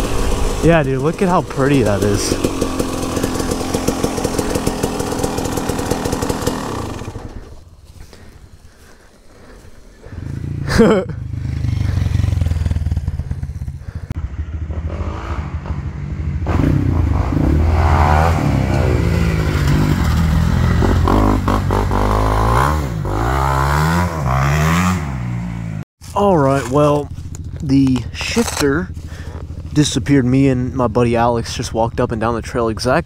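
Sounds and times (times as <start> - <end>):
dirt bike engine revving: 0.0 - 25.8, 26.4 - 32.3.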